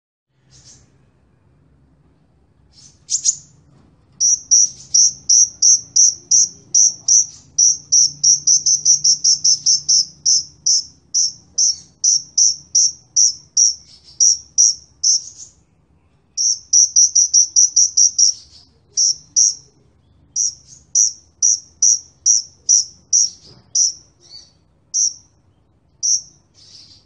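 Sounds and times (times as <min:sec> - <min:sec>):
bird chirping high: 0:00.4 - 0:01.0, 0:02.6 - 0:27.0.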